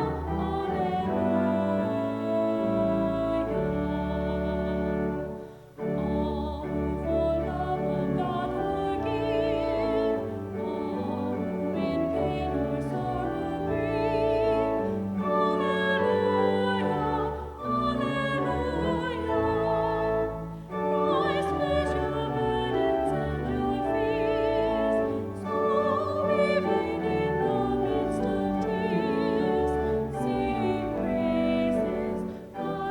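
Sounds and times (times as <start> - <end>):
classical singing with vibrato: 0.0 - 32.9
sustained instrumental accompaniment: 0.0 - 32.9.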